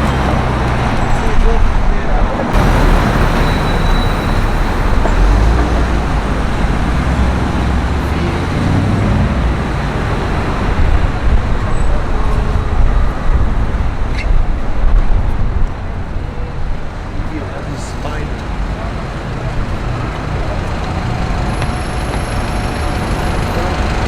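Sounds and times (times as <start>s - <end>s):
traffic passing: 0.0s - 24.0s.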